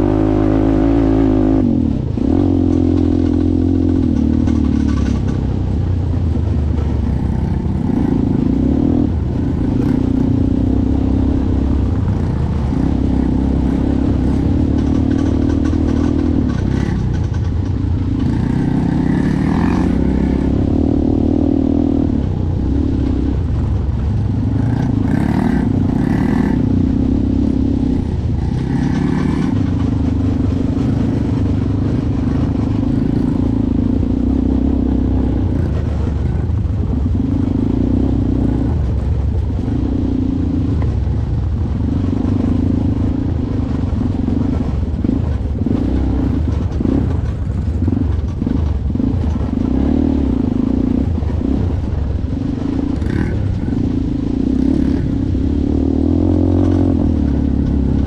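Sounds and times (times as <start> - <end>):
atv engine running: 0.0 - 58.0
constant low rumble: 0.0 - 58.0.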